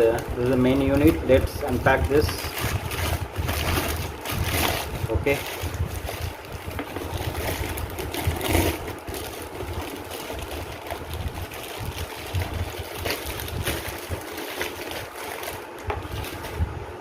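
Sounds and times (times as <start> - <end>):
packaging rustling and crackling: 0.0 - 17.0.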